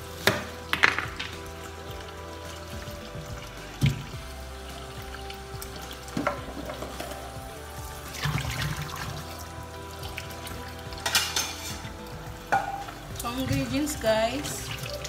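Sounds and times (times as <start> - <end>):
water splashes and knocks: 0.0 - 15.0.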